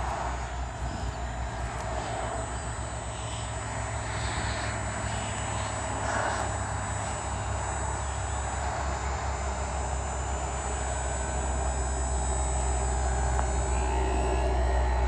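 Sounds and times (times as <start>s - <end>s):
model airplane motor and propeller: 0.0s - 15.0s.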